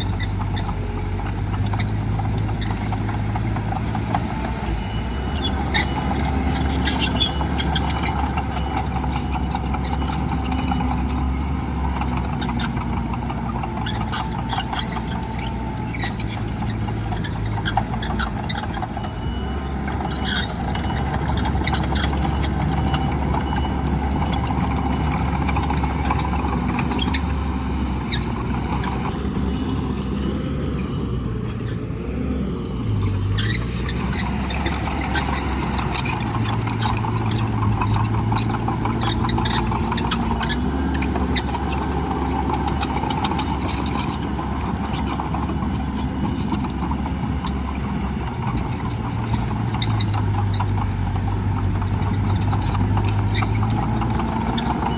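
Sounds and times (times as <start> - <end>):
diesel machinery drone: 0.0 - 54.9.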